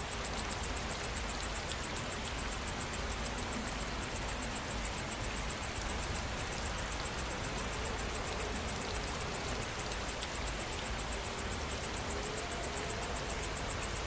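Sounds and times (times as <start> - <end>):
insect chirping: 0.0 - 14.0
rain falling: 0.0 - 14.0.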